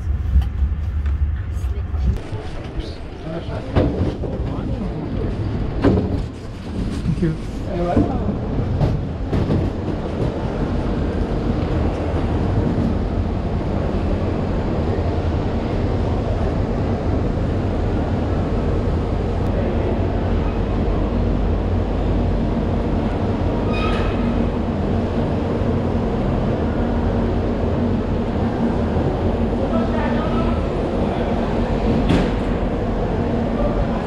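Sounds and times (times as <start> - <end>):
trains idling at platform: 0.0 - 34.0.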